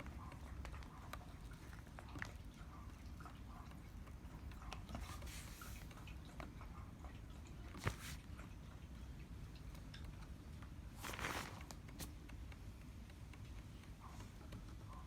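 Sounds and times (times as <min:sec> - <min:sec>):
dove pecking at feed: 0:00.0 - 0:15.0.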